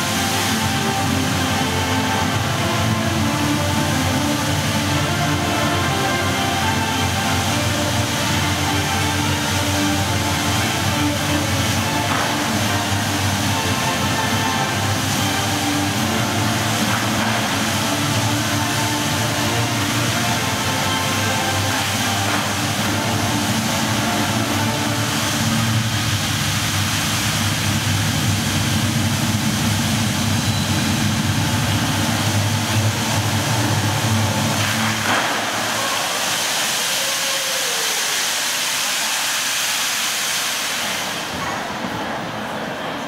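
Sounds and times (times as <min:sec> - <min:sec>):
fountain water hissing: 0:00.0 - 0:43.0.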